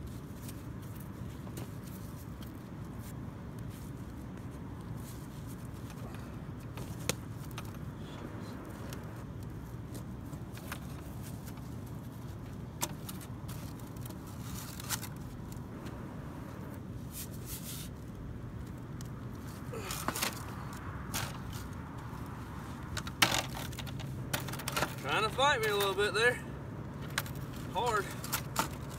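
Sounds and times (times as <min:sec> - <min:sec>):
short rustle: 0:00.0 - 0:26.0
steady low rumble: 0:02.6 - 0:28.9.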